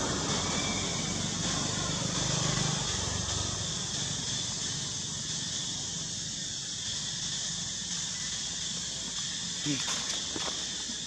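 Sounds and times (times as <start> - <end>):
low engine-like rumble: 0.0 - 9.9
high insect hiss: 0.0 - 11.0.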